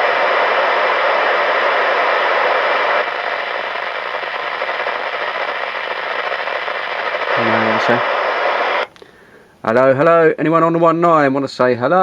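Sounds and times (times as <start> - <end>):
radio static hiss: 0.0 - 9.9.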